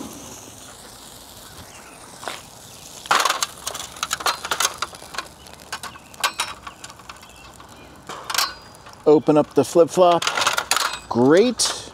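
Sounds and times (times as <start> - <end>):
wire rattling and scraping on metal: 2.2 - 11.9.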